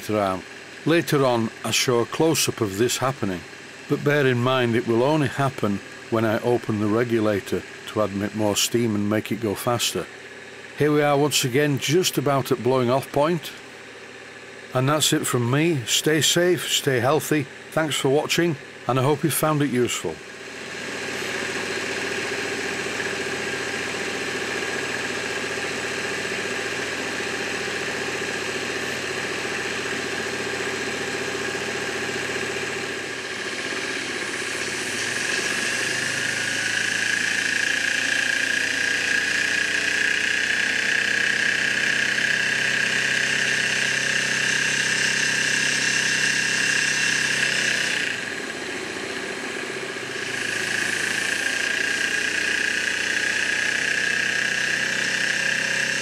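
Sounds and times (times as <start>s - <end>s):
model engine mechanical running: 0.0s - 56.0s.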